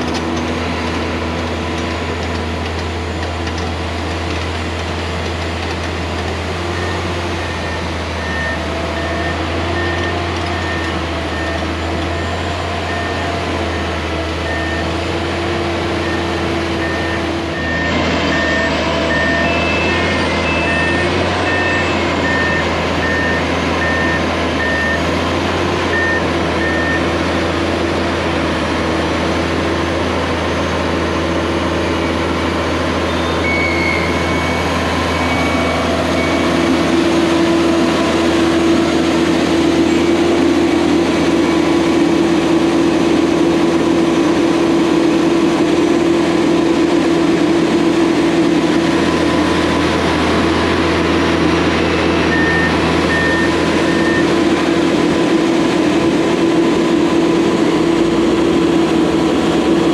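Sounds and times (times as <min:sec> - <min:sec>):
trencher engine running: 0:00.0 - 0:59.9.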